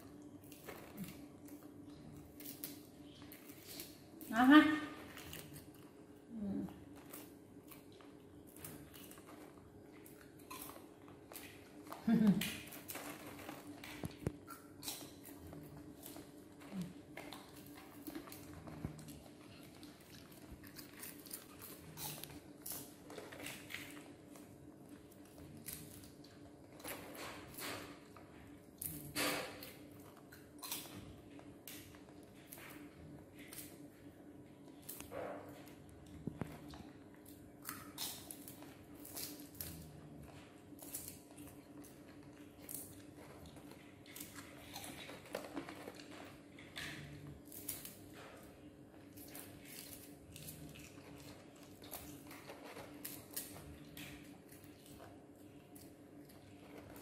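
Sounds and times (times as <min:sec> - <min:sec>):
monkeys chewing food: 0:00.0 - 0:57.0
steady low hum: 0:00.0 - 0:57.0.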